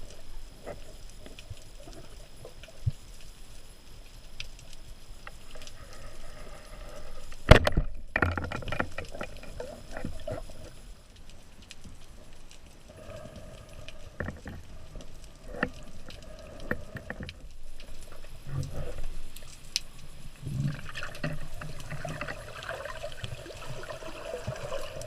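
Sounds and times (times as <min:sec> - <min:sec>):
underwater clicks and crackles: 0:00.0 - 0:25.0.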